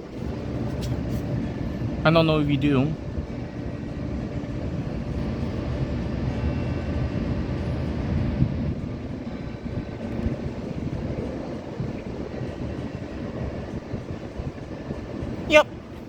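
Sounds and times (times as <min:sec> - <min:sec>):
low rumble of city noise: 0:00.0 - 0:16.0.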